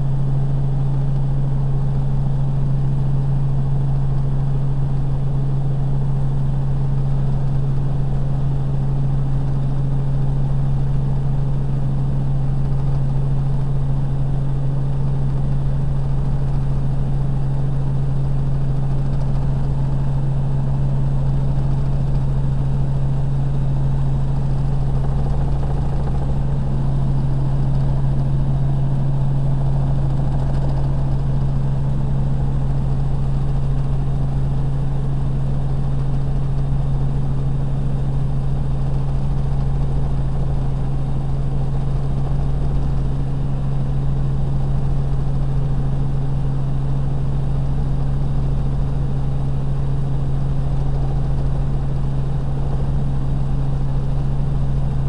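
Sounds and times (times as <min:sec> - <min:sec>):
helicopter cabin drone: 0:00.0 - 0:55.0.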